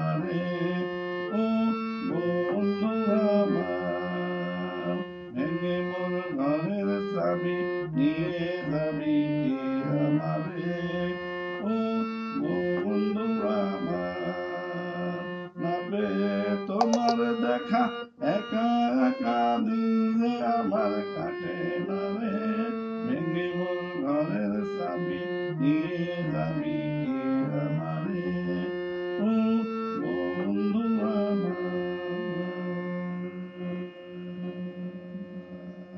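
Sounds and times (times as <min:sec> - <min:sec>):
harmonium playing a melody: 0:00.0 - 0:35.9.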